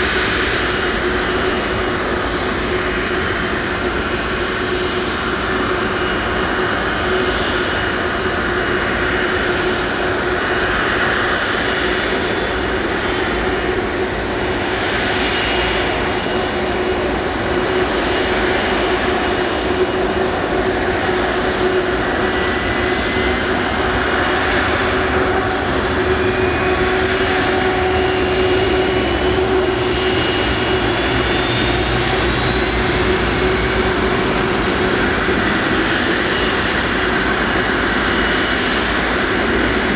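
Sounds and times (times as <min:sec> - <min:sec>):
jet engine hum and whistle: 0:00.0 - 0:39.9
rising jet engine whine: 0:00.0 - 0:39.9.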